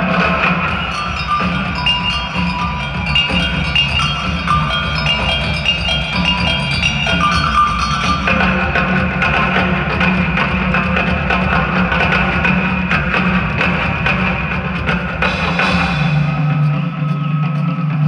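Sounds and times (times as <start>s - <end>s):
bright pitched percussion notes: 0.0s - 18.0s
live rock band playing: 0.0s - 18.0s.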